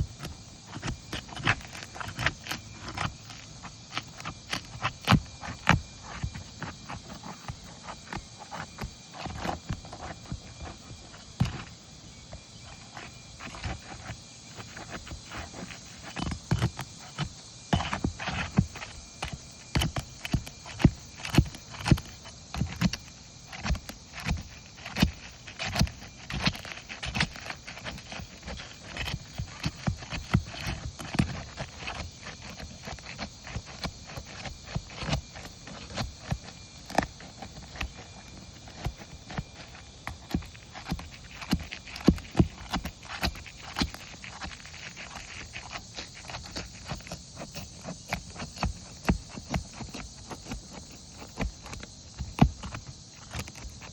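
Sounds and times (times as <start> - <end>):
hand tools knocking and scraping shingles: 0.1 - 11.7, 13.0 - 53.9.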